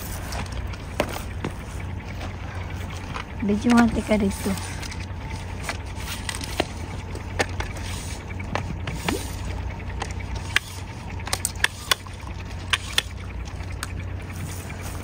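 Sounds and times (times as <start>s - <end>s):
steady low rumble: 0.0s - 15.0s
water sloshing and trickling: 0.0s - 15.0s.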